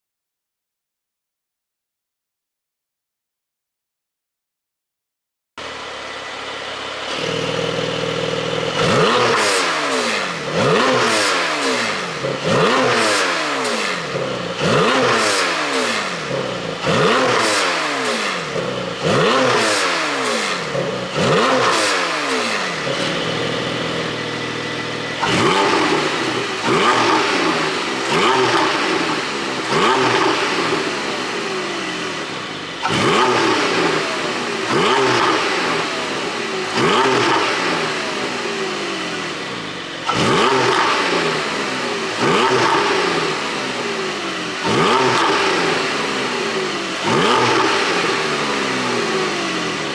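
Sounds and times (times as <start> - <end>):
car engine revving: 5.6 - 49.9.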